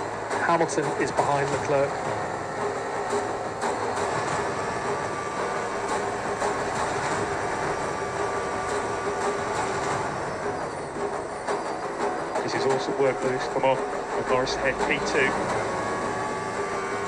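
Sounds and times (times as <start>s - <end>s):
racing car engine at high revs: 0.0s - 17.0s.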